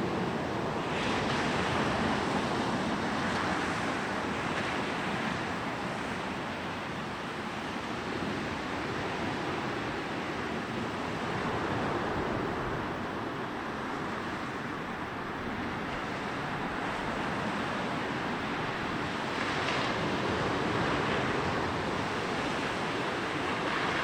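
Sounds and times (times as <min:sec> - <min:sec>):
waves washing up a beach: 0:00.0 - 0:24.0.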